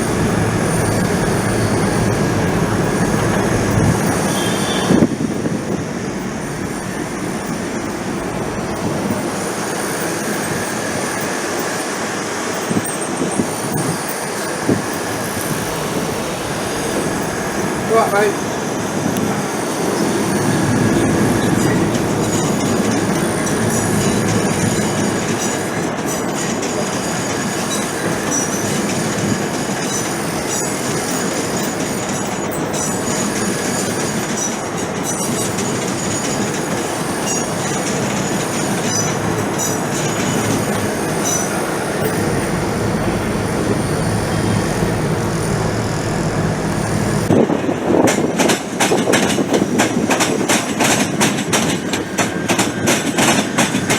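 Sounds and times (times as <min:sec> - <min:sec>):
high wheel squeals: 0:00.0 - 0:53.9
train rumbling on rails: 0:00.0 - 0:53.9
wheels clicking over rail joints: 0:00.0 - 0:53.9.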